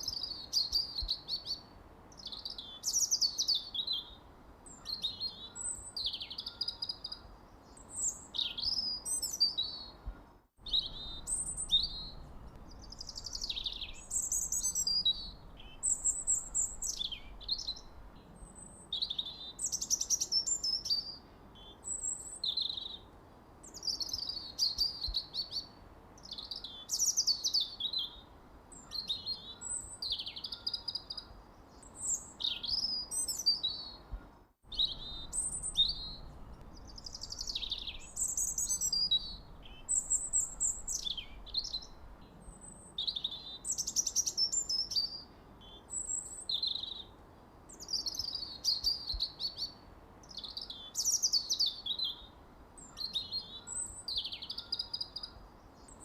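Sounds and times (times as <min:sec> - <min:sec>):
faint background hiss: 0:00.0 - 0:56.0
songbirds chirping and singing: 0:00.0 - 0:56.0.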